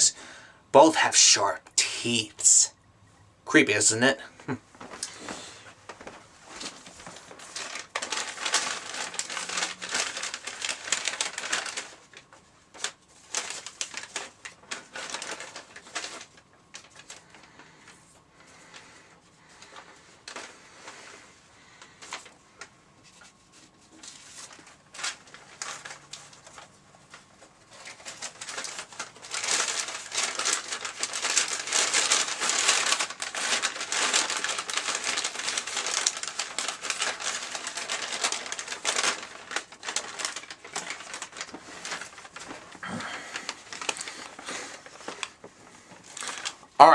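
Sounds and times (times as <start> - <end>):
paper bags crinkling: 0.8 - 2.6, 4.8 - 46.9.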